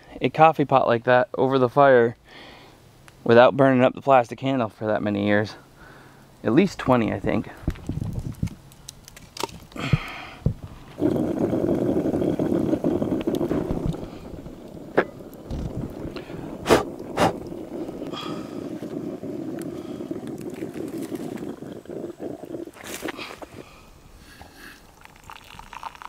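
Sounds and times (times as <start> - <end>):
coffee pot boiling: 5.1 - 26.0.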